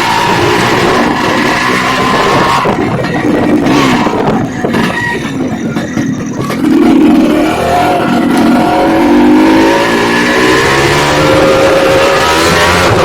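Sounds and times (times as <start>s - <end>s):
two-stroke motorcycle engine revving: 0.0s - 5.5s, 6.2s - 13.0s.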